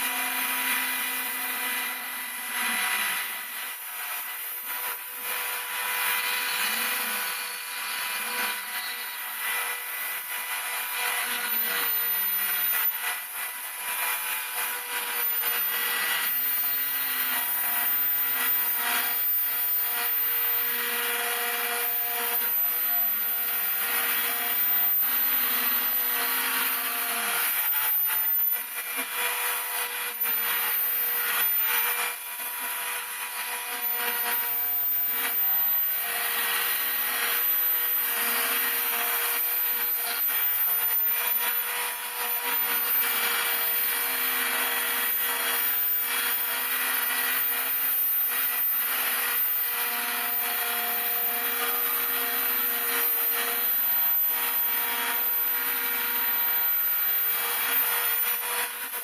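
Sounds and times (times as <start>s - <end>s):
router spindle whining and cutting: 0.0s - 59.0s.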